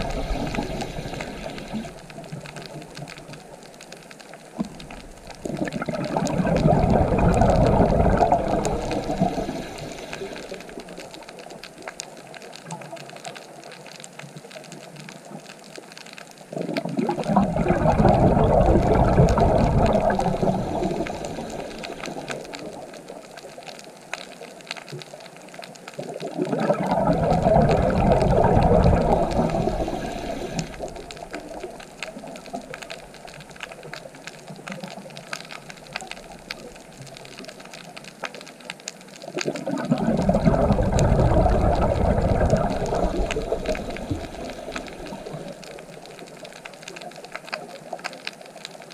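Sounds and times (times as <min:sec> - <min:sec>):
scuba regulator bubbles: 0:00.0 - 0:15.7, 0:16.3 - 0:48.9
faint crackling clicks: 0:00.0 - 0:48.9.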